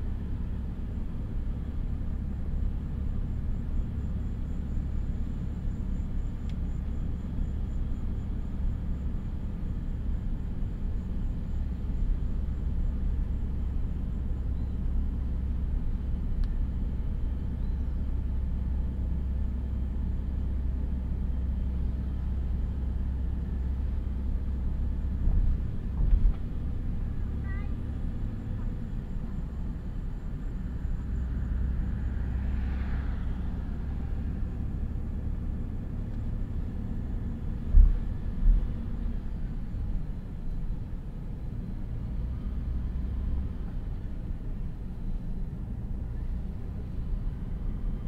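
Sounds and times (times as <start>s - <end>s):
car driving rumble: 0.0s - 48.0s.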